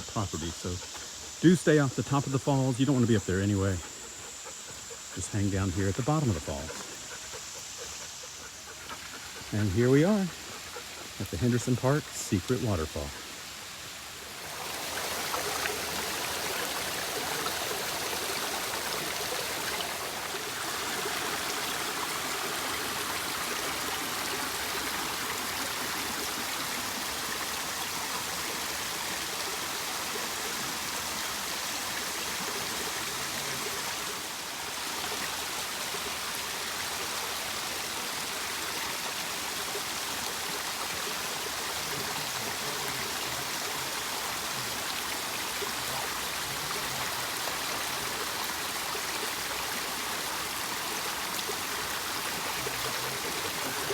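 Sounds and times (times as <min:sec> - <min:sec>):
waterfall rushing and splashing: 0:09.4 - 0:53.9.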